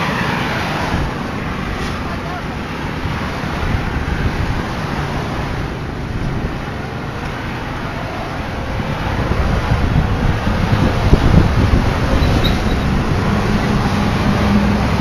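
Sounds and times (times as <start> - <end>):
heavy truck approaching: 0.0 - 15.0
highway traffic noise: 0.0 - 15.0.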